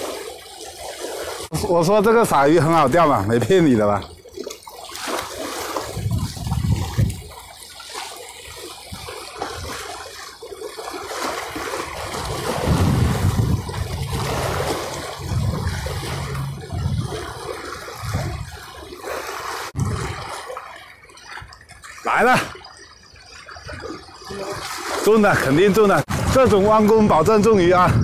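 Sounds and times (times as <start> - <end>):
seawater splashing against breakwater: 0.0 - 28.0.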